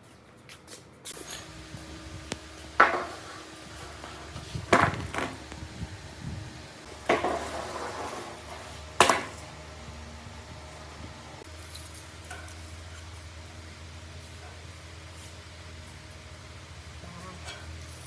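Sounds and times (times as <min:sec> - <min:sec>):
low steady hum: 0:01.2 - 0:18.0.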